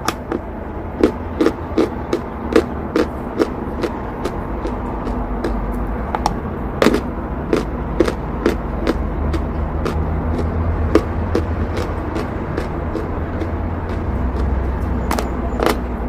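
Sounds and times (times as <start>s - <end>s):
chalk crunching while chewed: 0.0s - 16.0s
steady low rumble: 0.0s - 16.0s.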